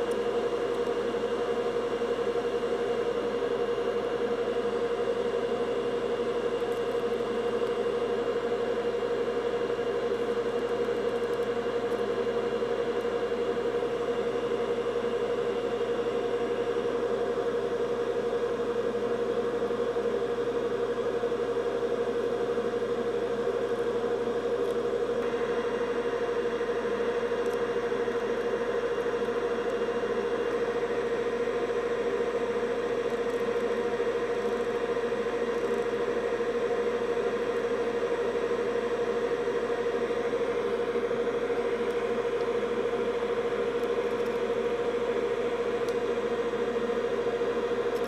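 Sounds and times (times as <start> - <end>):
machine whirring hum: 0.0 - 48.0.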